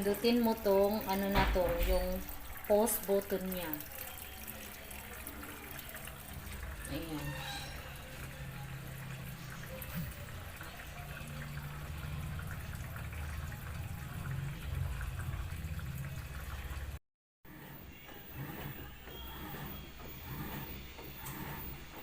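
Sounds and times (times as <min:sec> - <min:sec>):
water pouring into washing machine: 0:00.0 - 0:22.0.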